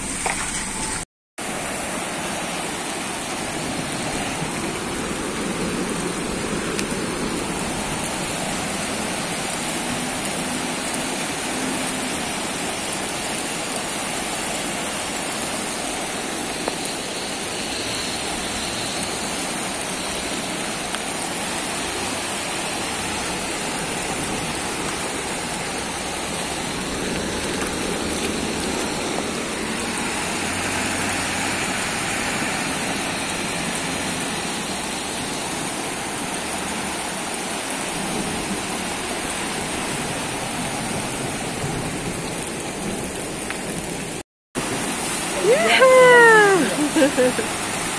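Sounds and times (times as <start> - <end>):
floodwater rushing: 0.0 - 47.9
heavy rain: 0.0 - 47.9.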